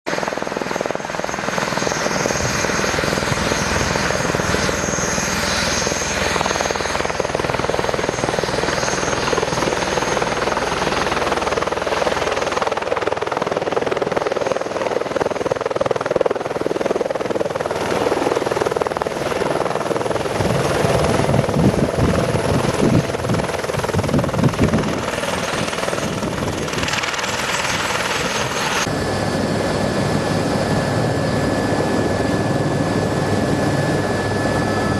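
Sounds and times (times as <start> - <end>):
helicopter cabin drone: 0.1 - 34.9
helicopter taking off: 0.1 - 34.9.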